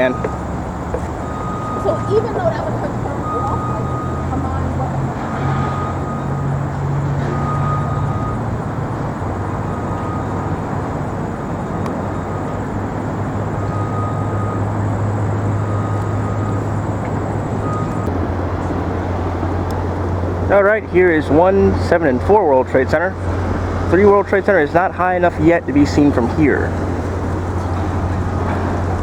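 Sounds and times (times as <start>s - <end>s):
city noise: 0.0s - 29.0s
low engine drone: 0.0s - 29.0s.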